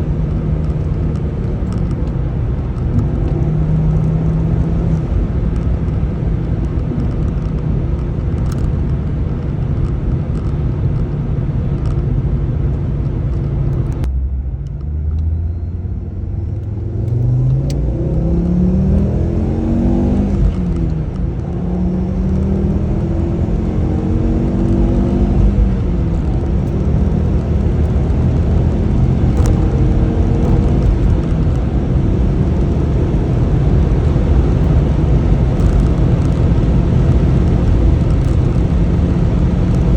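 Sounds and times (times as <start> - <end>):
car engine revving on road: 0.0 - 39.9.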